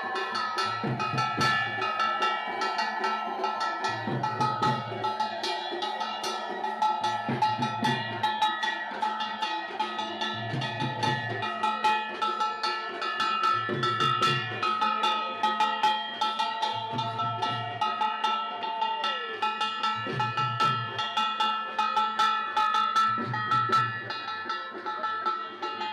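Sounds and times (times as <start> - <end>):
drums: 0.0 - 25.9
metallic percussion strikes: 0.0 - 25.9.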